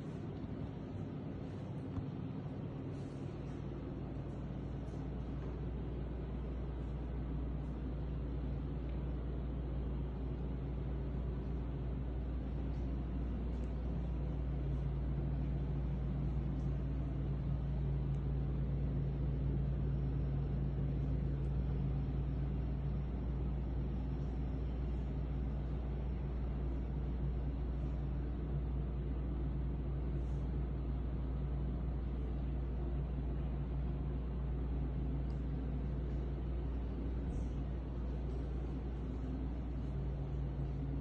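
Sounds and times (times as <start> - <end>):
constant droning tone: 0.0 - 41.0
low hum and rumble: 0.0 - 41.0.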